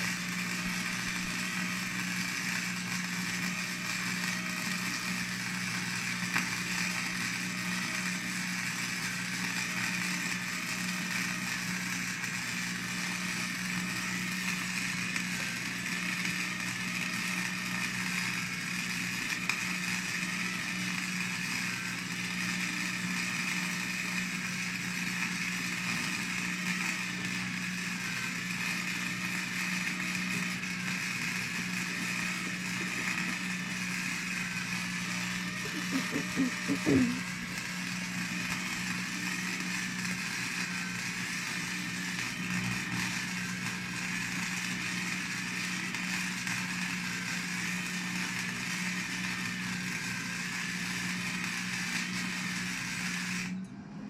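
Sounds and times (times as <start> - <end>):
welding arc crackling buzz: 0.0 - 53.6
low welder hum: 0.0 - 54.0.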